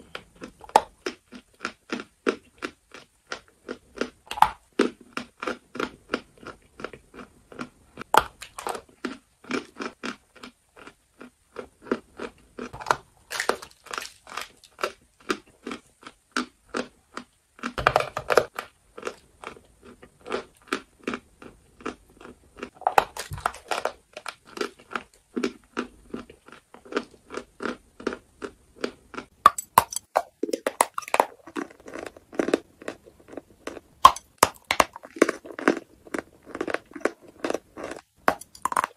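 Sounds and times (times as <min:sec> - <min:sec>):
chewing chalk crunches: 0:00.0 - 0:38.9.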